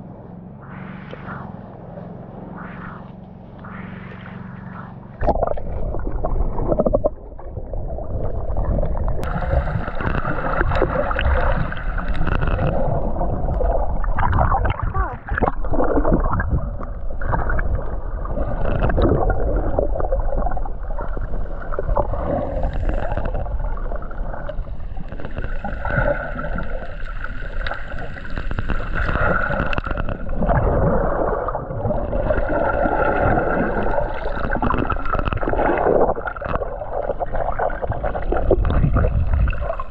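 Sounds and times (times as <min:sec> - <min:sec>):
muffled underwater rushing water: 0:00.0 - 0:39.9.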